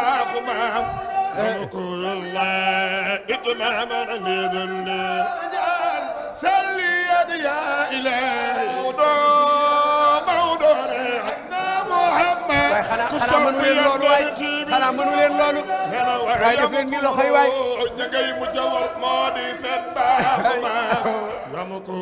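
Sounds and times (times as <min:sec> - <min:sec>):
man chanting into a microphone: 0:00.0 - 0:05.3, 0:06.2 - 0:22.0.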